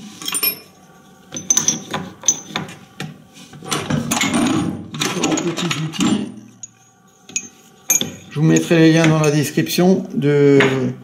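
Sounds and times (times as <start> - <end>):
rustling and clinking handling noise: 0.0 - 9.4.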